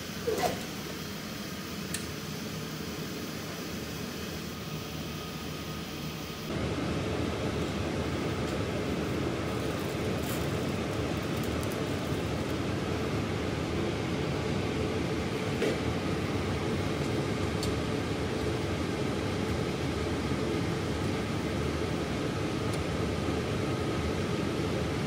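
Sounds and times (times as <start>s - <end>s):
cabinet blower fan noise: 0.0s - 25.0s.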